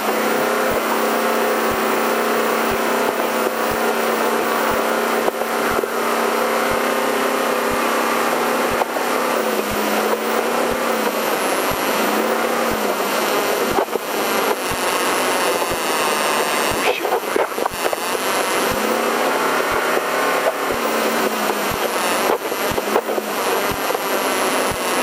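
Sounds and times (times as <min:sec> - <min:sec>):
road and wind noise: 0:00.0 - 0:25.0
truck engine drone: 0:00.0 - 0:25.0.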